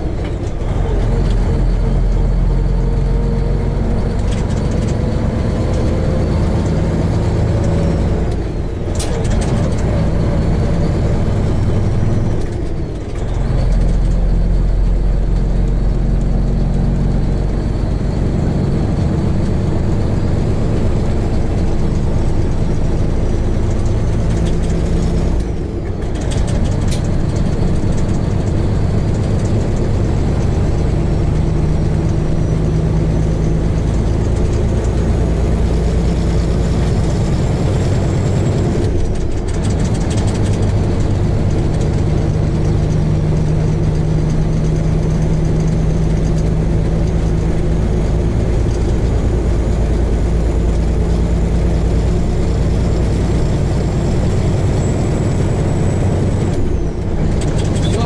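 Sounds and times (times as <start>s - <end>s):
road noise: 0.0s - 58.0s
truck diesel engine running: 0.0s - 58.0s.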